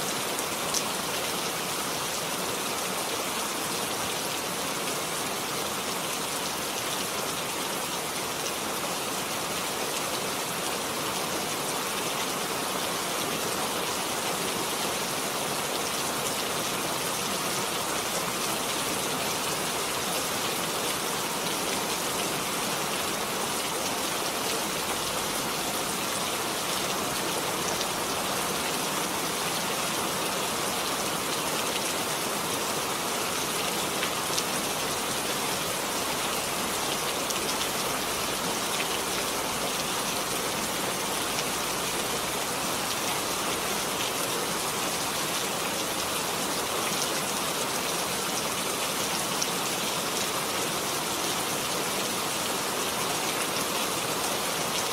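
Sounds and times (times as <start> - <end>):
rain hissing and pattering: 0.0 - 54.9.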